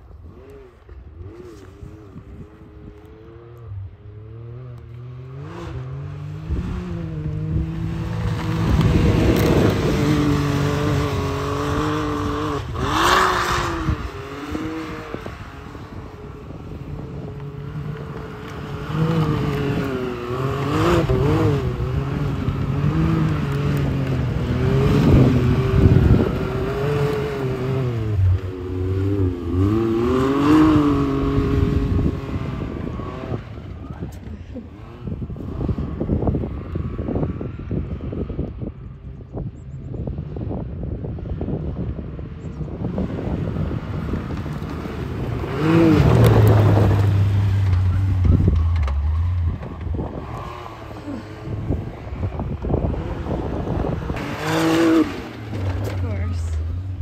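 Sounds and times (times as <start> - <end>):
engine revving: 0.2 - 38.2, 42.8 - 57.0.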